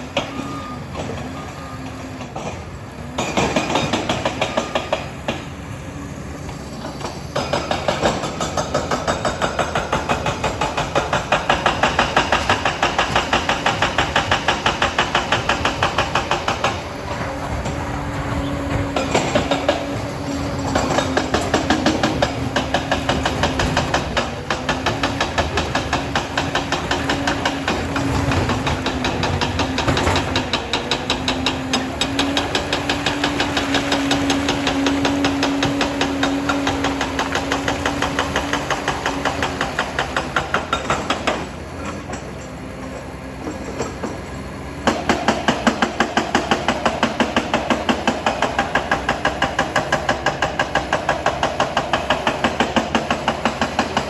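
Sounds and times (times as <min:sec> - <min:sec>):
dozer diesel engine running: 0:00.0 - 0:54.0
regular track clanking: 0:06.5 - 0:54.0.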